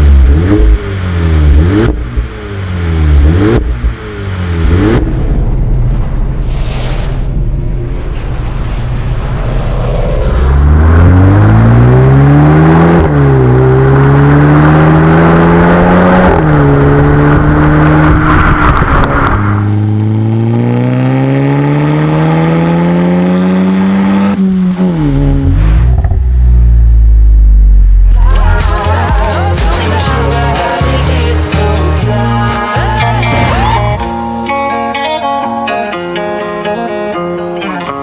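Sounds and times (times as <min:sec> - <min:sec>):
car engine accelerating hard: 0:00.0 - 0:06.4, 0:07.7 - 0:34.5.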